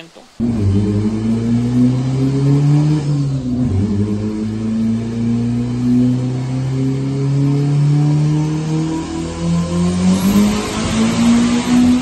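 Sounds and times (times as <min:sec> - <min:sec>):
car engine running hard: 0:00.4 - 0:12.0.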